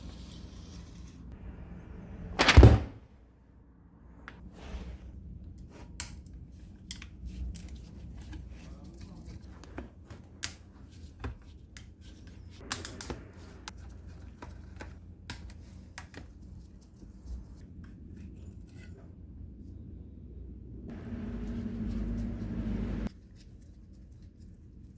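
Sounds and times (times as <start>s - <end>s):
low steady hum: 0.1s - 23.2s.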